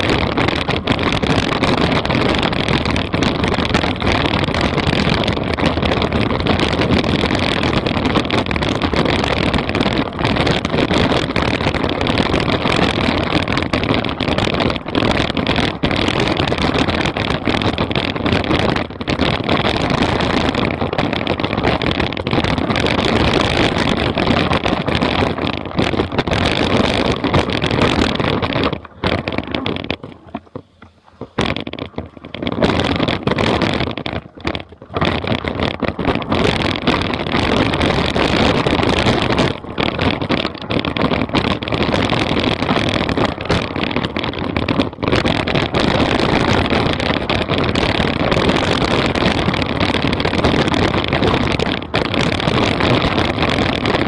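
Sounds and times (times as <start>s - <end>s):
mountain bike rattling on rough trail: 0.0s - 54.0s
wind buffeting microphone: 0.0s - 54.0s.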